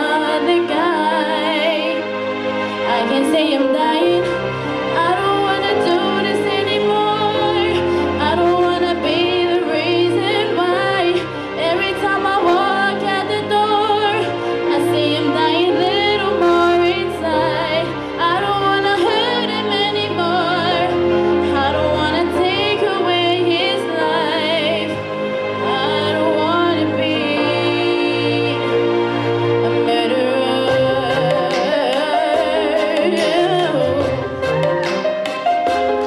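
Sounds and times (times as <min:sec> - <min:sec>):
woman singing into microphone: 0:00.0 - 0:02.1, 0:02.8 - 0:28.8, 0:29.6 - 0:35.0
karaoke backing track: 0:00.0 - 0:36.0.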